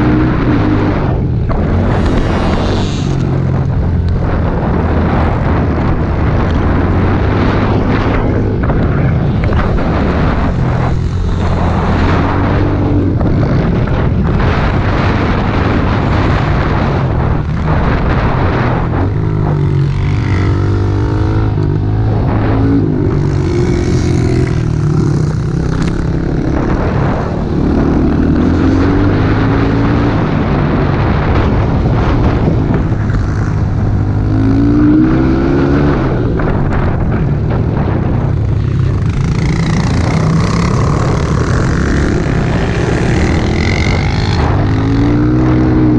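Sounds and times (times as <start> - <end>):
pit bike engine revving: 0.0 - 37.1, 37.8 - 45.9.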